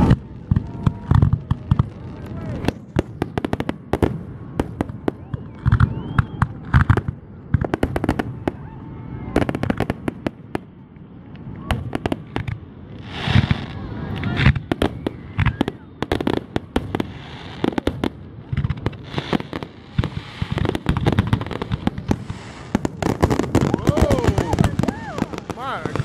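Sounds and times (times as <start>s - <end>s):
fireworks bangs: 0.0s - 26.0s
fireworks crackling and hissing: 0.0s - 26.0s.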